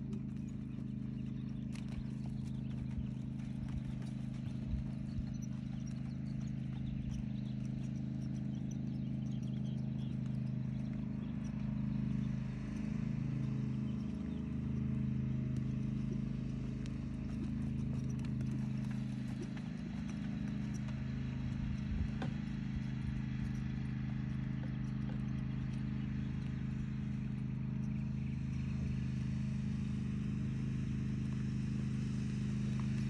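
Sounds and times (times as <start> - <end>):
horse hoofbeats on dirt: 0.0 - 33.0
low mechanical hum: 0.0 - 33.0.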